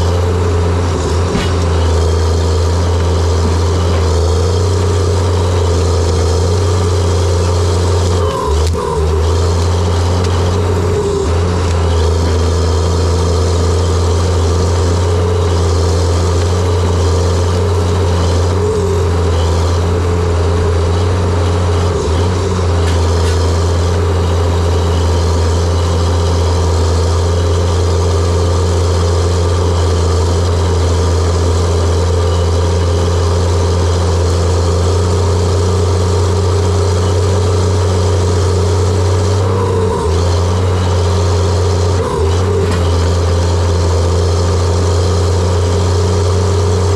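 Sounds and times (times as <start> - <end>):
dozer diesel engine droning: 0.0 - 46.9.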